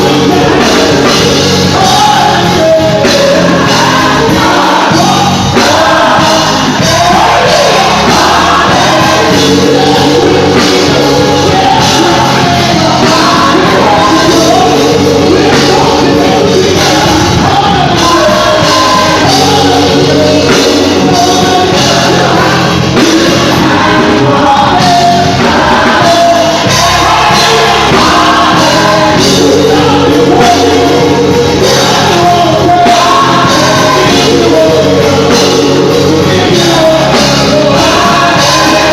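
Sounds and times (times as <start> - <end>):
live gospel choir with band: 0.0 - 38.9.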